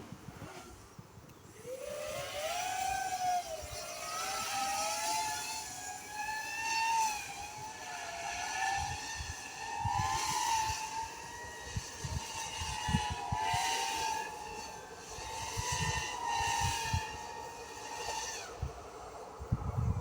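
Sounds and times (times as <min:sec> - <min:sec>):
drone motors whining: 0:00.1 - 0:20.0.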